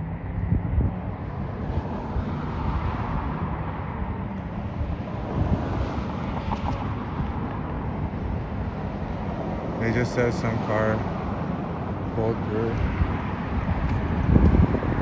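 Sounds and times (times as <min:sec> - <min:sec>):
vehicles humming: 0:00.0 - 0:15.0
wind buffeting microphone: 0:00.0 - 0:15.0.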